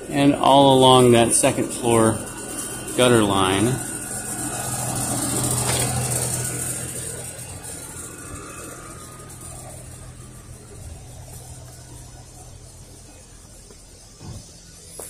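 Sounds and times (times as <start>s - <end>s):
car driving past: 0.0s - 15.0s.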